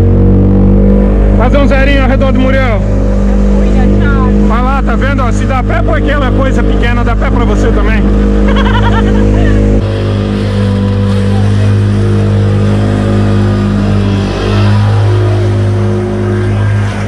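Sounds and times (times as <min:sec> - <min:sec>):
outboard motor running hard: 0:00.0 - 0:17.0.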